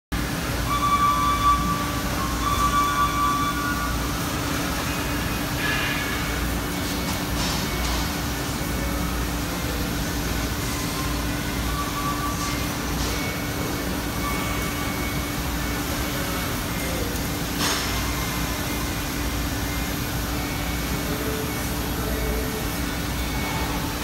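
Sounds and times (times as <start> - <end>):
industrial machinery humming: 0.1 - 24.0.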